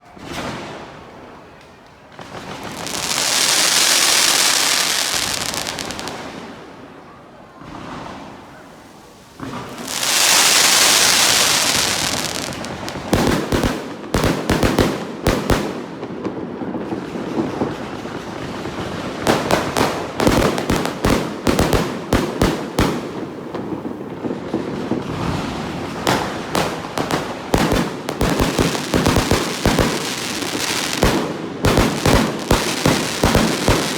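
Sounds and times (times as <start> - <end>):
rapid firework bangs and crackling: 0.0 - 33.9
hissing firework sparks: 2.3 - 6.6, 7.8 - 16.5, 17.2 - 33.9.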